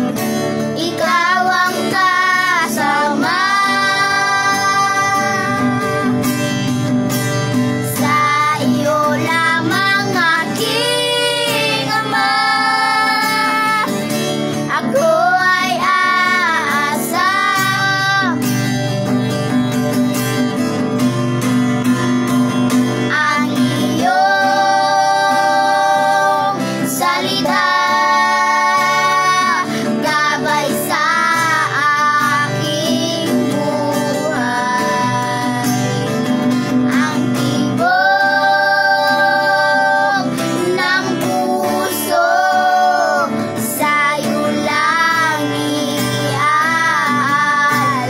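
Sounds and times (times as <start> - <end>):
acoustic guitar: 0.0 - 48.0
girl and boy singing: 0.7 - 6.6, 7.8 - 19.0, 23.0 - 48.0.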